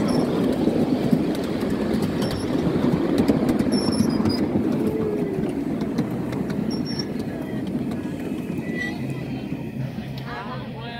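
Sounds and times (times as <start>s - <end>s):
miniature train wheels on rail: 0.0s - 10.4s.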